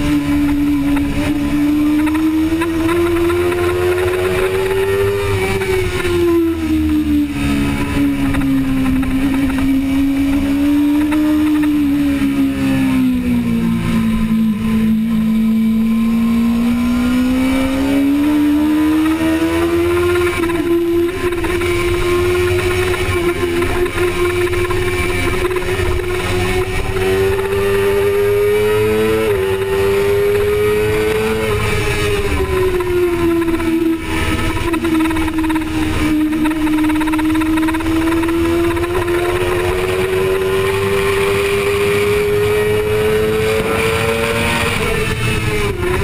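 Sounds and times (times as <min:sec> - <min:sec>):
motorcycle engine at high revs: 0:00.0 - 0:46.0.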